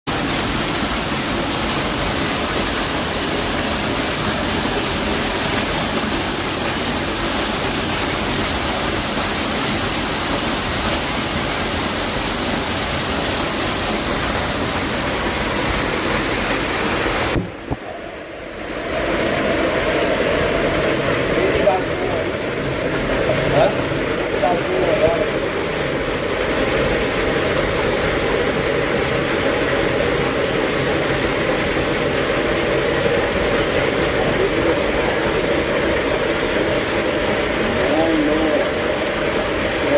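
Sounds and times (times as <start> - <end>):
waterfall rushing: 0.1 - 39.9.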